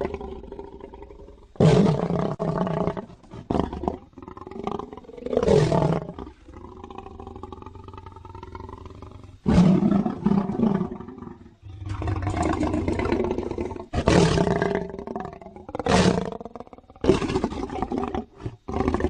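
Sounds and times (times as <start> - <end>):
lion growling and roaring: 0.0 - 19.0.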